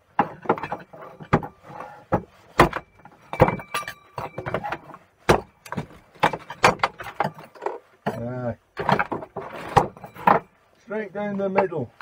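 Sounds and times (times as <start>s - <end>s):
hammer striking wood and metal: 0.0s - 8.2s, 8.8s - 10.5s.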